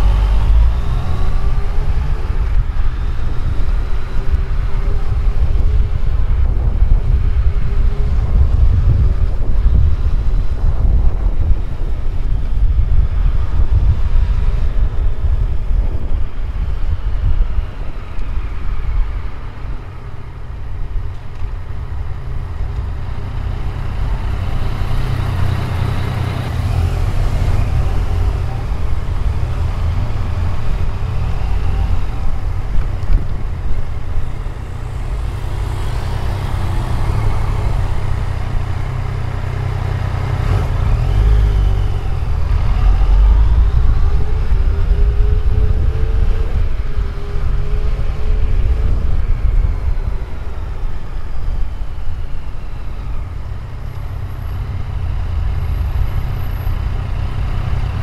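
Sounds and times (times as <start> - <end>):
motorcycle engine rumbling: 0.0 - 58.0
road and wind noise: 0.0 - 58.0.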